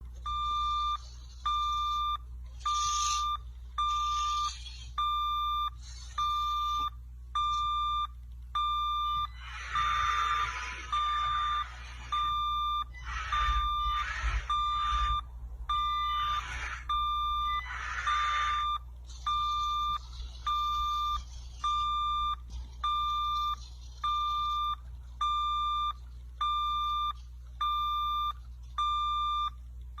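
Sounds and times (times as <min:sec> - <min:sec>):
reversing alarm beeping: 0:00.3 - 0:29.6.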